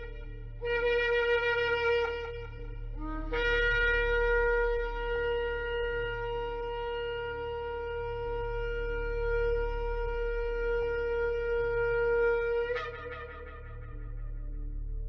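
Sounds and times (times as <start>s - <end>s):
shofar blasts: 0.0s - 13.9s.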